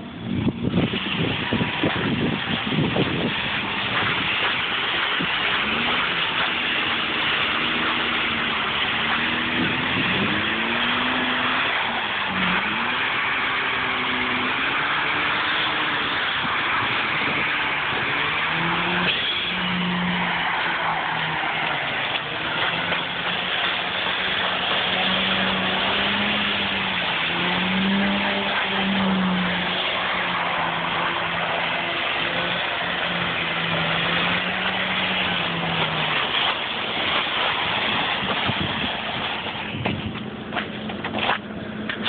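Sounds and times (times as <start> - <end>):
car engine revving: 0.0 - 42.0
steady rushing noise: 0.0 - 42.0.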